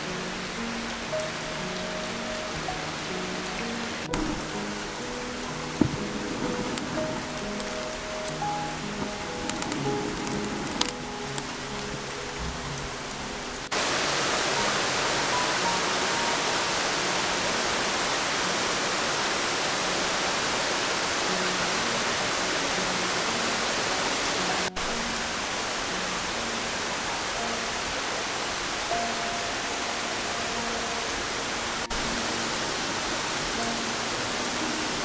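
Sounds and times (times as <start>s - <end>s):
heavy rain hissing: 0.0s - 35.0s
soft background music: 0.0s - 35.0s.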